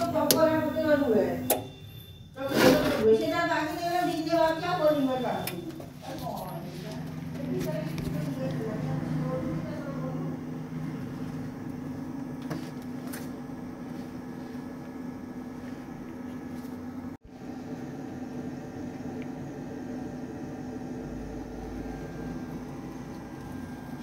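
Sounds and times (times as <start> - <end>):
inverter electrical hum: 0.0 - 24.0.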